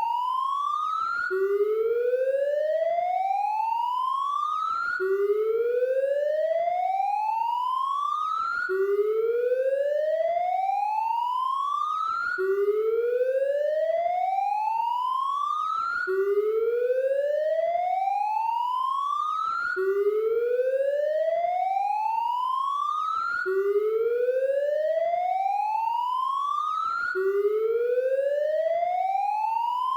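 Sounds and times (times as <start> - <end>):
police siren wailing: 0.0 - 29.9.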